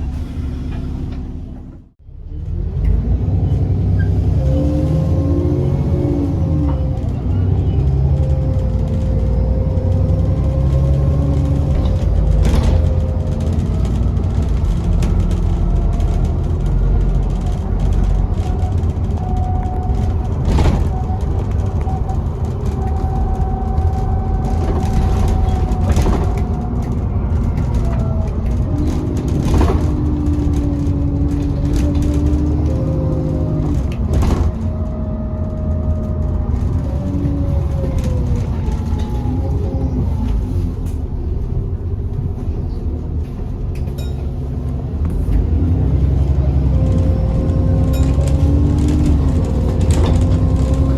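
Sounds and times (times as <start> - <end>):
diesel bus engine under load: 0.0 - 50.9.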